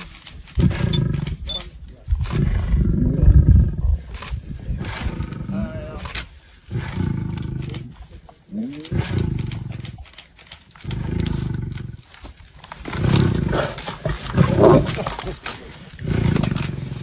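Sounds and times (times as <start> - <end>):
big cat roaring: 0.5 - 1.6, 2.2 - 10.0, 10.8 - 12.1, 12.8 - 17.0.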